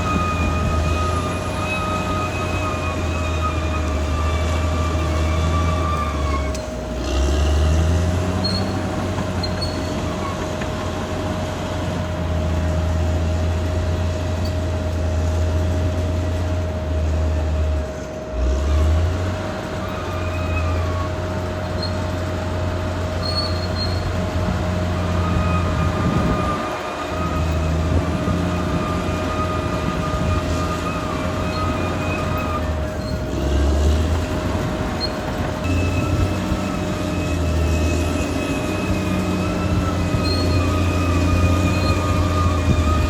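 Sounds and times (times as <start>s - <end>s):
bulldozer diesel engine under load: 0.0s - 43.0s.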